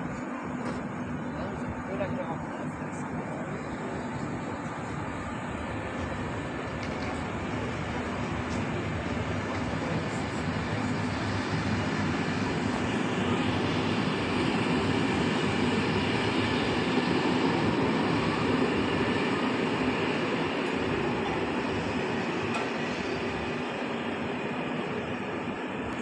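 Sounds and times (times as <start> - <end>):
train rumbling on rails: 3.2 - 26.0.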